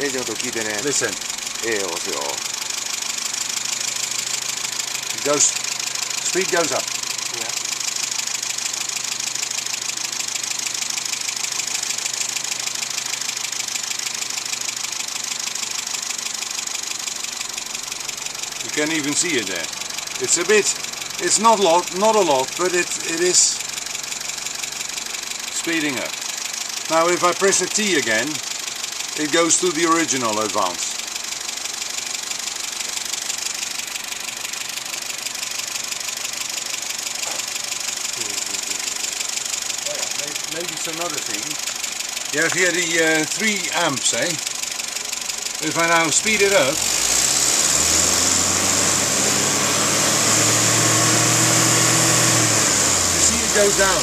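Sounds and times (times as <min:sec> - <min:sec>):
fast even ticking: 0:00.0 - 0:48.9
car engine idling: 0:00.0 - 0:54.0.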